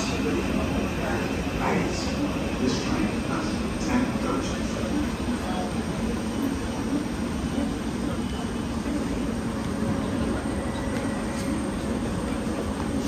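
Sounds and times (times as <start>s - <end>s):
murmur of passengers: 0.0s - 13.0s
trains rumbling and humming: 0.0s - 13.0s.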